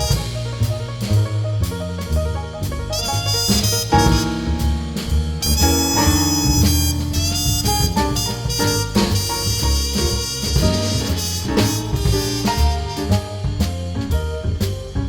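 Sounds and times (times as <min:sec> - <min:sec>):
upbeat instrumental music: 0:00.0 - 0:15.0.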